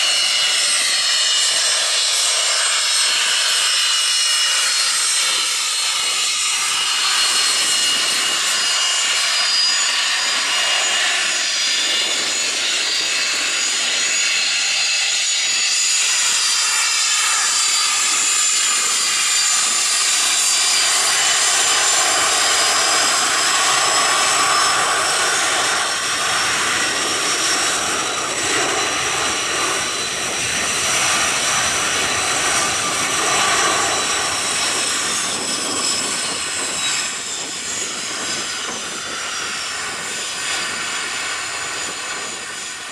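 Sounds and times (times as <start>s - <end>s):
jet engine whine: 0.0s - 42.9s.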